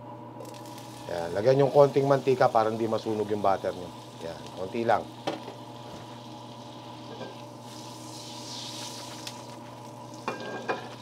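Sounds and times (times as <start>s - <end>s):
steady low hum: 0.0s - 11.0s
butter sizzling in frying pan: 0.4s - 11.0s.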